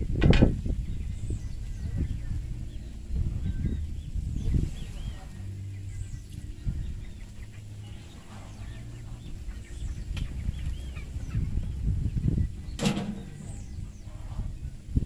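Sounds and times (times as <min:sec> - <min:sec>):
birds chirping: 0:00.0 - 0:15.0
low rumble: 0:00.0 - 0:15.0.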